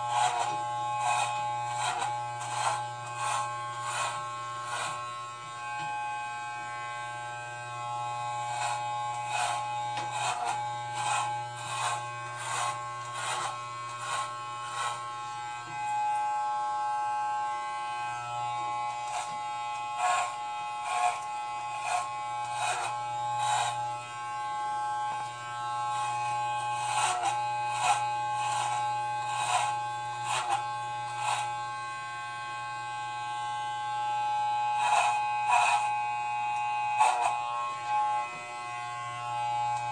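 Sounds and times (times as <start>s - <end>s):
clipper blades rasping through hair: 0.0s - 6.3s, 7.3s - 16.3s, 17.9s - 31.6s, 34.6s - 39.9s
electric hair clippers buzzing: 0.0s - 39.9s.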